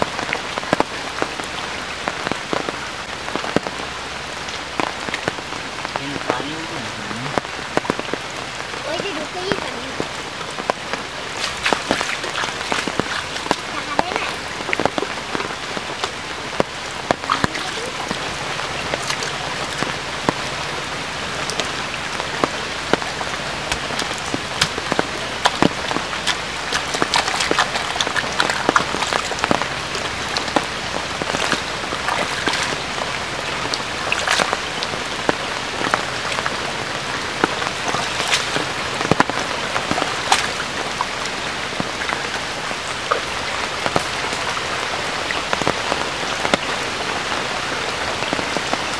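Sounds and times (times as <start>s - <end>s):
rain falling on shallow water: 0.0s - 48.9s.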